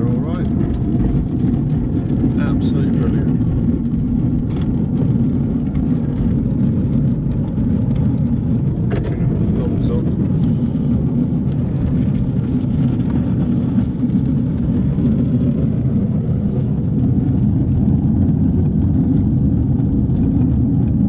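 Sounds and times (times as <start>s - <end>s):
miniature train rumbling on track: 0.0s - 21.0s.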